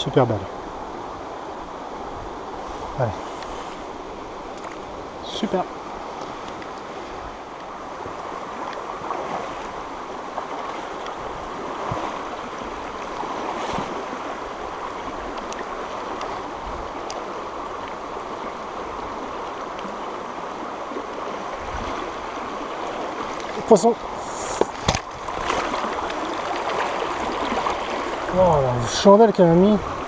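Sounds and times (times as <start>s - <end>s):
stream rushing over stones: 0.0s - 30.0s.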